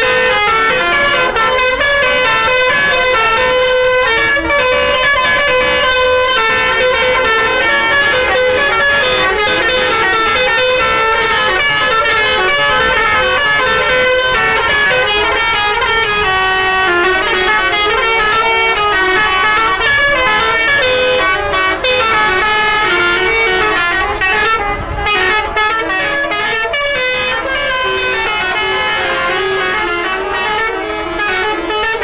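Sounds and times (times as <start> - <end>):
melodic bus air horn: 0.0 - 32.0.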